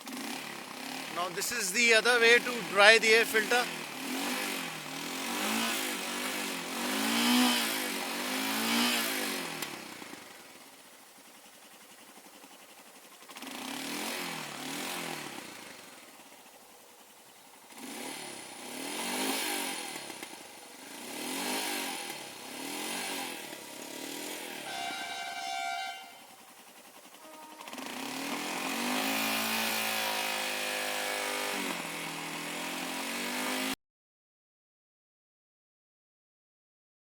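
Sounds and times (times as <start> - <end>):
motorcycle engine revving: 0.0 - 33.8.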